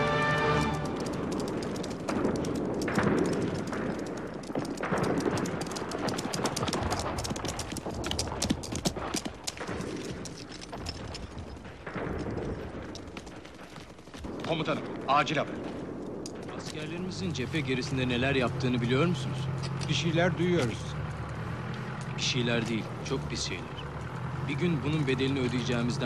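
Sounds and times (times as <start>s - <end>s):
horses galloping on hard ground: 0.0s - 26.0s.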